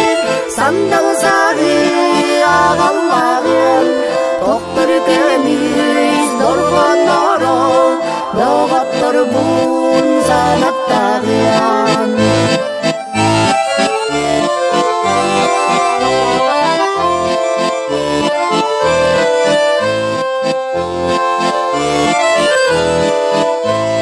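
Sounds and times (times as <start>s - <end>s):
accordion folk melody: 0.0s - 24.0s.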